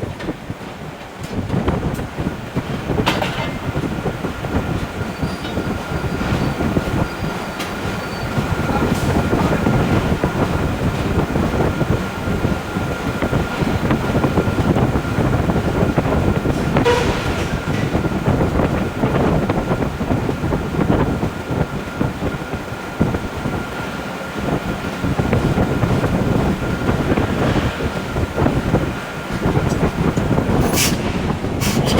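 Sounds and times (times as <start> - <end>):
heavy machinery rumbling: 0.0 - 31.9.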